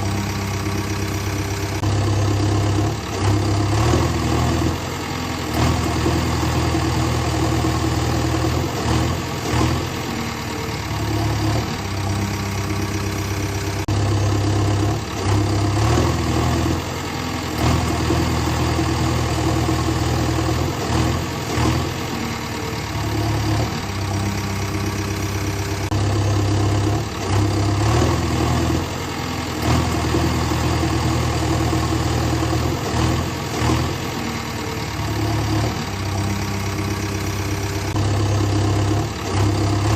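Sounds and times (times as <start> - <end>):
engine running near idle: 0.0 - 39.9.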